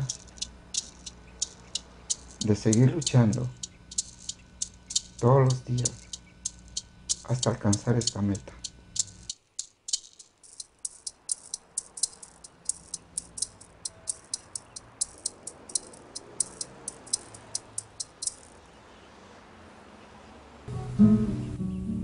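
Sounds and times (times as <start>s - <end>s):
sharp high-pitched clicks: 0.0s - 18.6s.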